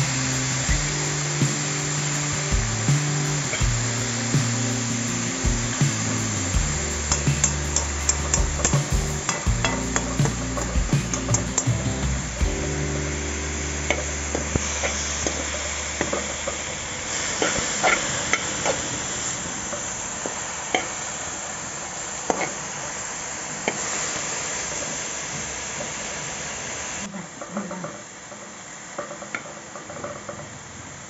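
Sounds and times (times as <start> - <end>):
leaves sizzling in oil: 0.0 - 30.3.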